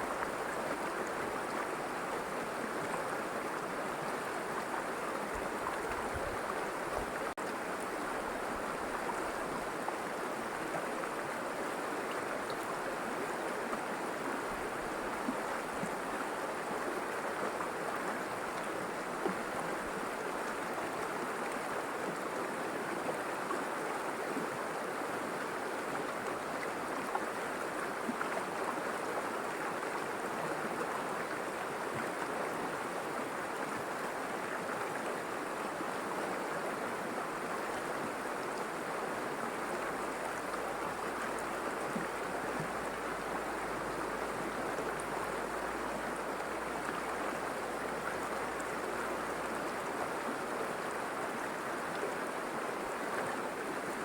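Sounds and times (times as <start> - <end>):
river water rushing over stones: 0.0 - 54.0.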